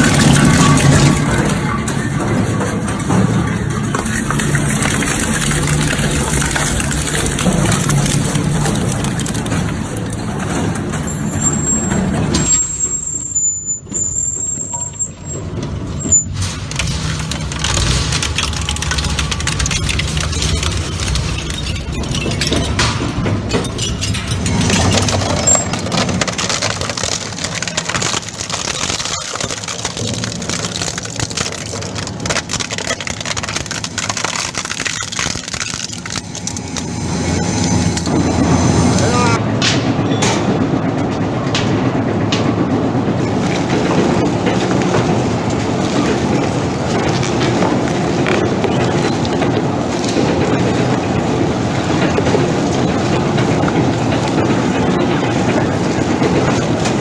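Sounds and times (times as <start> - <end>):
grinding machine crackling: 0.0 - 13.2, 16.3 - 57.0.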